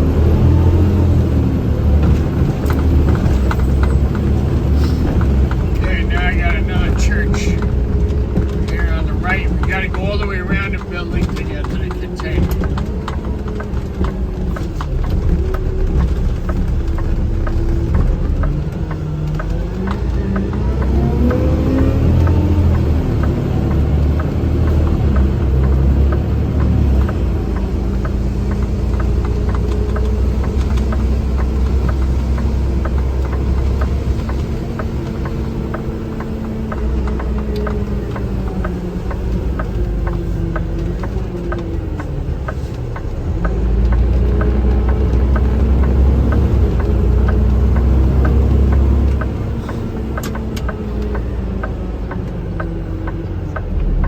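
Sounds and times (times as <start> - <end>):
heavy low rumble: 0.0 - 54.0
truck engine running: 0.0 - 54.0.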